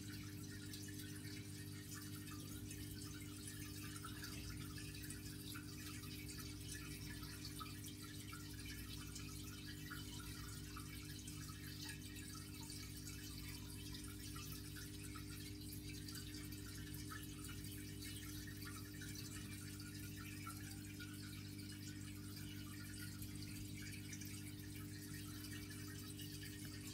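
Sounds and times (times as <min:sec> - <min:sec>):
aquarium pump humming: 0:00.0 - 0:26.9
water trickling and dripping: 0:00.0 - 0:26.9.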